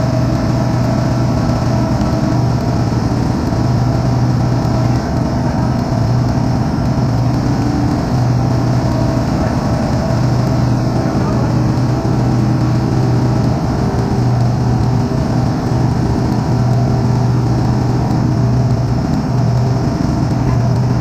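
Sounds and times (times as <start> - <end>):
refrigeration machinery droning: 0.0 - 21.0.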